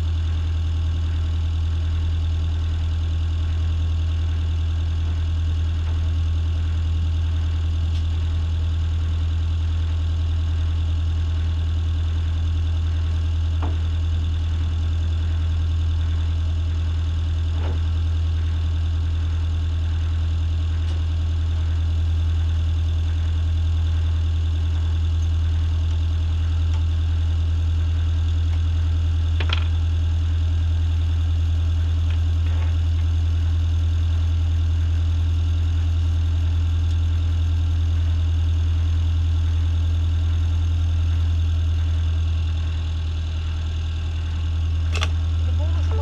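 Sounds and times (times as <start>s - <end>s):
boat engine running low hum: 0.0s - 46.0s.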